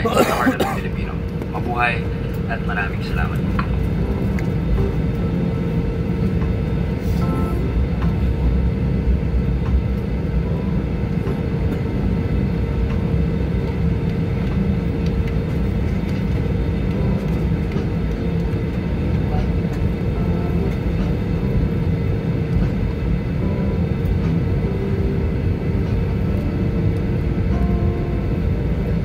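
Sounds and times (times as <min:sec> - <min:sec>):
aircraft cabin low rumble: 0:00.0 - 0:29.0
steady hum: 0:00.0 - 0:29.0.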